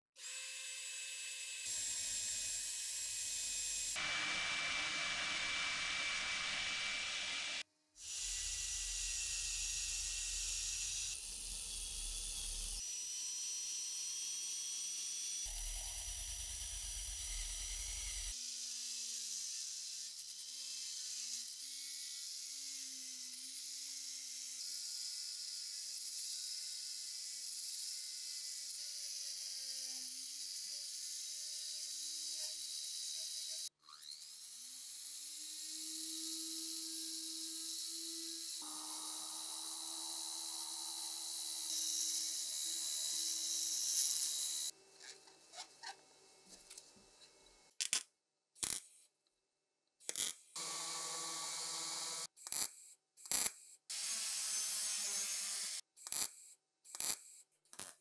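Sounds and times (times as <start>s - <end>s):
rotary tool motor whine: 0.2s - 24.6s, 25.2s - 47.2s, 50.6s - 52.3s.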